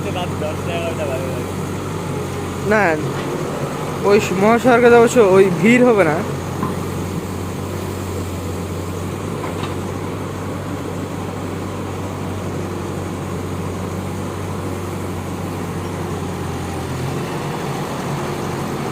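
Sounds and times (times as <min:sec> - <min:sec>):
heavy diesel engine running: 0:00.0 - 0:18.9.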